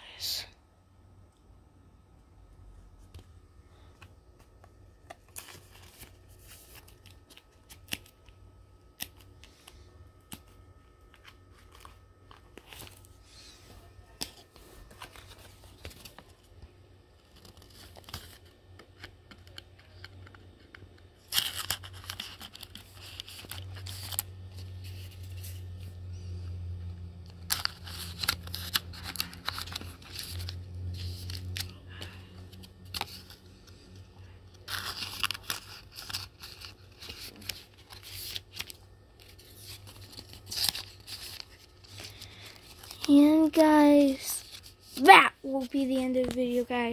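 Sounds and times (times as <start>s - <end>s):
plastic pages crinkling: 3.0s - 26.0s, 27.1s - 46.9s.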